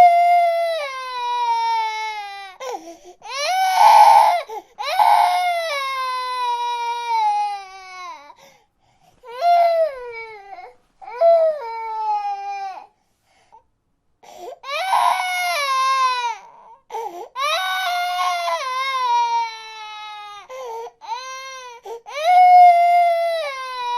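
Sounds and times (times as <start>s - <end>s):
baby crying: 0.0s - 8.4s, 9.3s - 12.9s, 14.6s - 23.9s.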